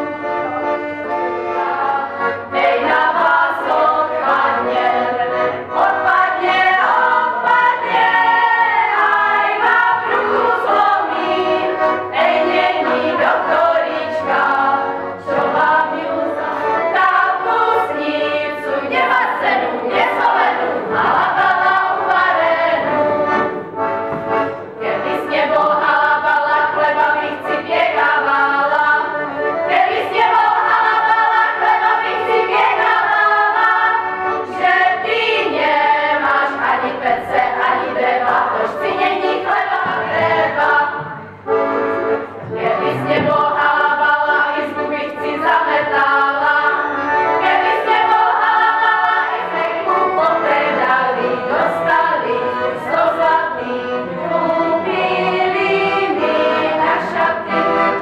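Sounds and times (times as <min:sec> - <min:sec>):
accordion: 0:00.0 - 0:58.0
women singing in harmony: 0:01.7 - 0:23.5, 0:24.8 - 0:41.3, 0:42.4 - 0:58.0.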